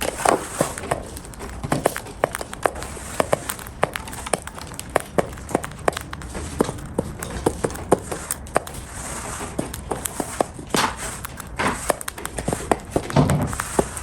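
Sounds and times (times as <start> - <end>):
bird beak crunching food: 0.0 - 14.0.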